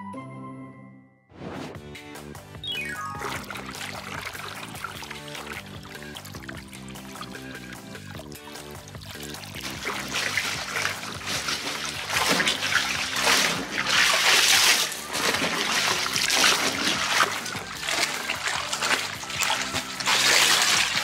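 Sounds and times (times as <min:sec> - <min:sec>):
background music: 0:00.0 - 0:21.0
bathwater splashing: 0:02.8 - 0:21.0.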